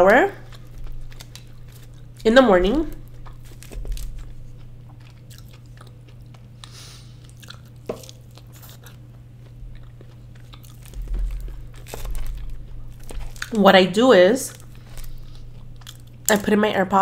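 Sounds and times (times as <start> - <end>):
steady low hum: 0.0 - 17.0
person chewing food: 0.4 - 13.6, 14.5 - 16.4.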